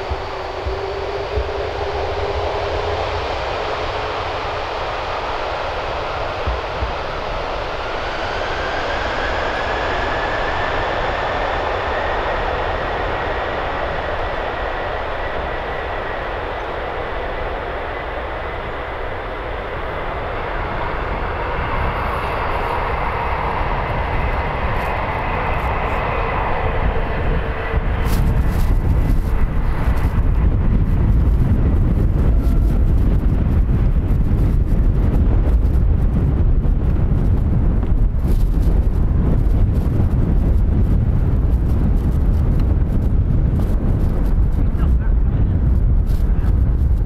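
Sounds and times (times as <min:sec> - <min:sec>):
jet engine whine rising: 0:00.0 - 0:47.0
jet engines at takeoff thrust: 0:00.0 - 0:47.0.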